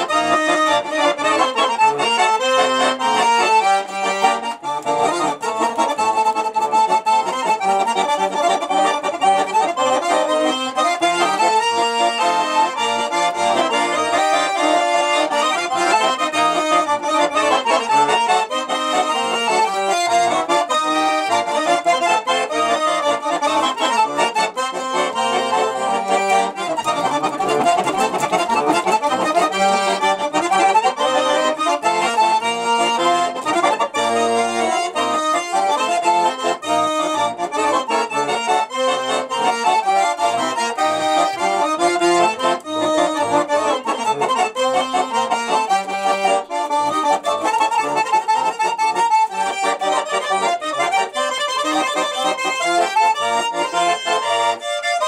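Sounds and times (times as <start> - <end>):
button accordion playing melody: 0.0 - 55.0.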